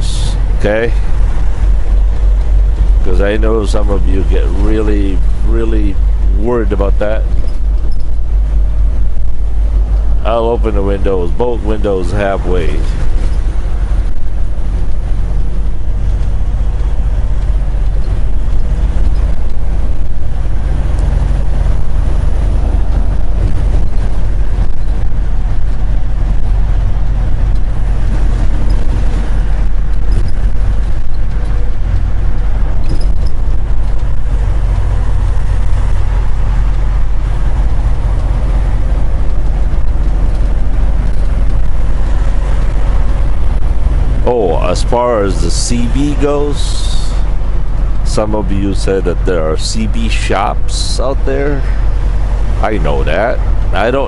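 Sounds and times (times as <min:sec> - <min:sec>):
diesel truck engine rumbling: 0:00.0 - 0:54.0.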